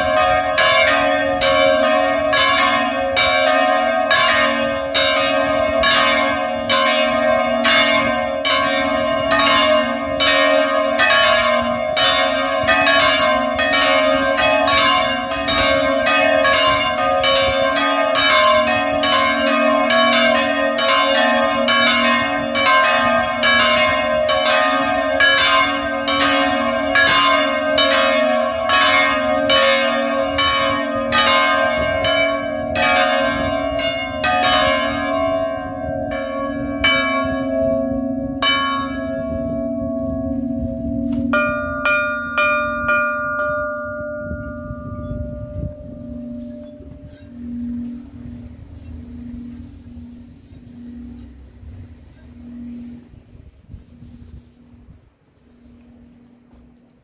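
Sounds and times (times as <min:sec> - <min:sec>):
church bells ringing in peal: 0:00.0 - 0:54.7.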